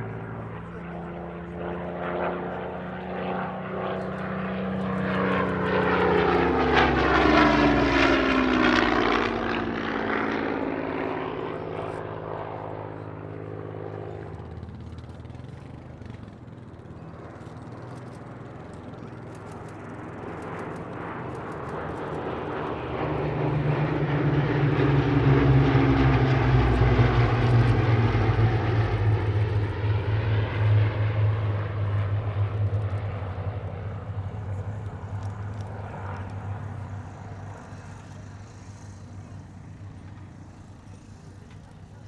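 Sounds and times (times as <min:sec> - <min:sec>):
propeller aircraft engines passing: 0:00.0 - 0:42.0.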